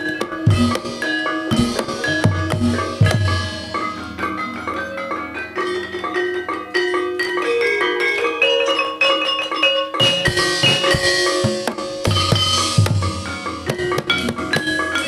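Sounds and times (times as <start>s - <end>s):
drums: 0.0s - 15.0s
gamelan music: 0.0s - 15.0s
ringing mallet melody: 0.0s - 15.0s.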